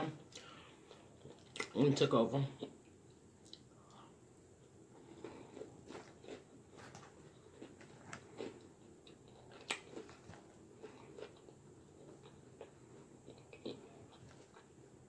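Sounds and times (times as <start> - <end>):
chewing salad: 0.2 - 1.9, 2.6 - 4.0, 4.6 - 14.8.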